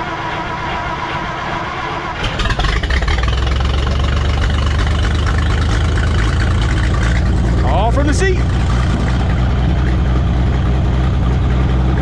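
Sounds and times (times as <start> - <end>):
starter motor cranking whine: 0.0 - 12.0
tractor engine rumbling: 0.0 - 12.0.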